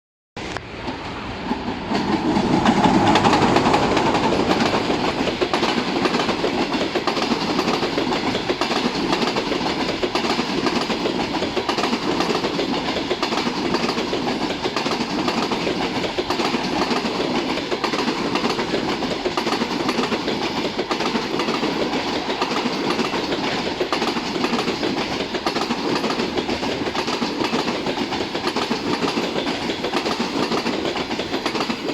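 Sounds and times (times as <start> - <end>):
electric locomotive passing: 0.4 - 31.9
train wheels on rails: 0.4 - 31.9.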